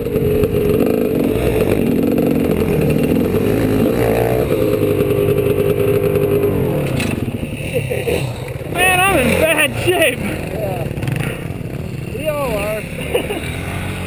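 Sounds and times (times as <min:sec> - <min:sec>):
two-stroke motorcycle engine: 0:00.0 - 0:14.0.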